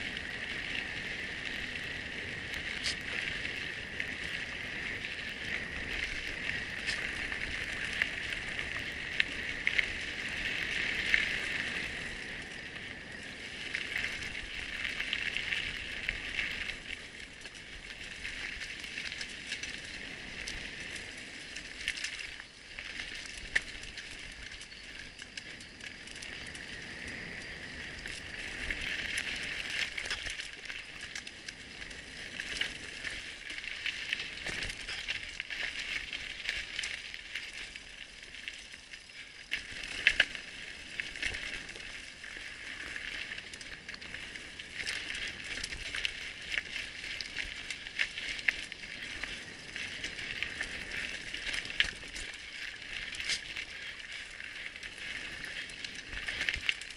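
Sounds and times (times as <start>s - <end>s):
bike tyres hissing on dirt: 0.0s - 56.9s.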